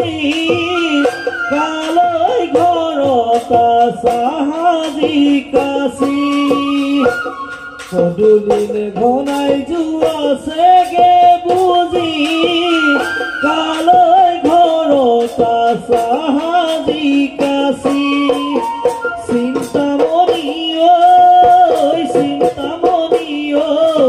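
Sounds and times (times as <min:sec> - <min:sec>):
bamboo flute melody: 0:00.0 - 0:03.7, 0:05.6 - 0:09.4, 0:10.9 - 0:22.9
drums beating steady rhythm: 0:00.0 - 0:24.0
man singing: 0:00.0 - 0:24.0.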